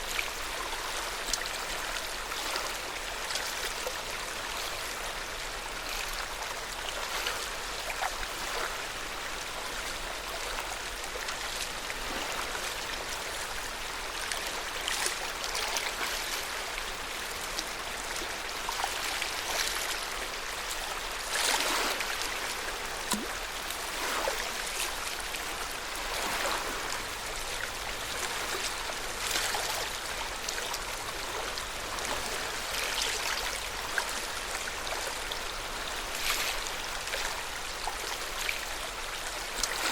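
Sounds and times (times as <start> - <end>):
small water splashes: 0.0 - 39.9
water lapping at shore: 0.0 - 39.9.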